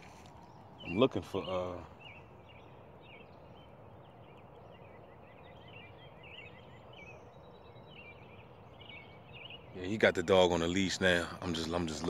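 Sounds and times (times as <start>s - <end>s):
birds chirping faintly: 0.0s - 12.0s
low outdoor background noise: 0.0s - 12.0s.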